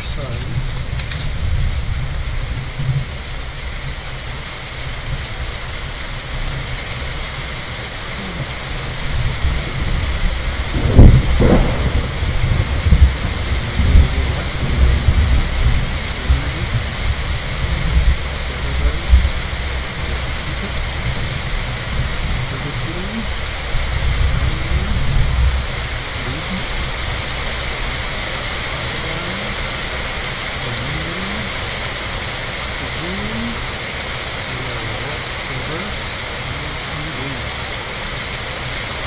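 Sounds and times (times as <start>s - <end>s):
low rolling thunder: 0.0s - 37.5s
steady rain falling: 0.0s - 39.0s.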